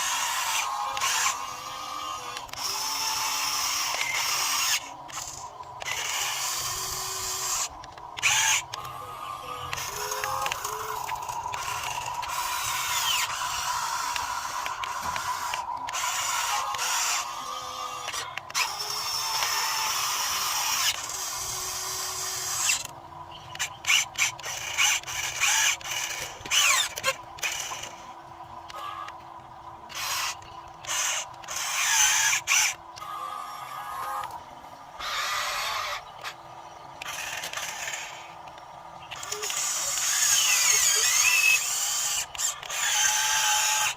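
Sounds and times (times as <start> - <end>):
model excavator motors whining: 0.0 - 43.9.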